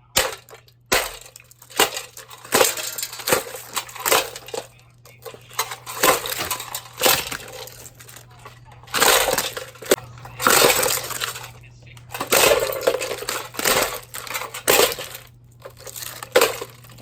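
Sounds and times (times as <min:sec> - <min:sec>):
fan being smashed: 0:00.0 - 0:17.0.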